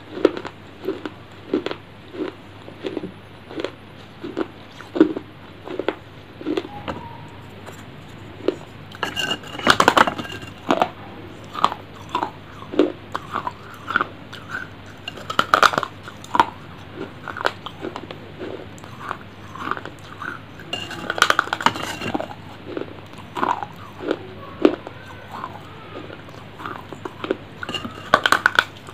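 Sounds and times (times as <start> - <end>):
chewing crunchy clay: 0.0 - 6.8, 7.6 - 28.9.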